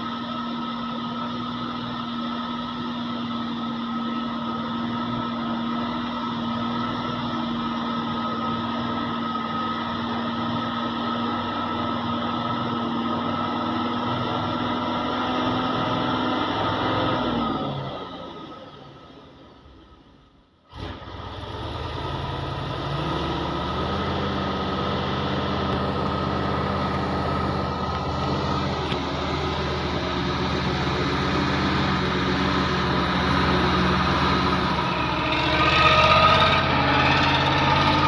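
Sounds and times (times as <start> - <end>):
truck engine whining: 0.0 - 38.0.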